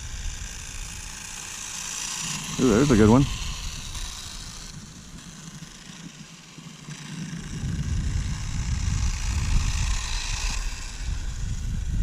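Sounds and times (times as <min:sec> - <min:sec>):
rc motorcycle running: 0:00.0 - 0:12.0.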